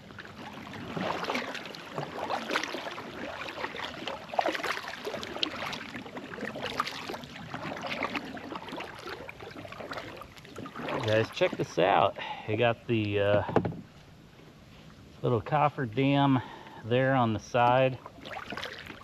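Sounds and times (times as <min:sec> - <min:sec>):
water splashing against kayak: 0:00.0 - 0:12.3, 0:15.8 - 0:19.0.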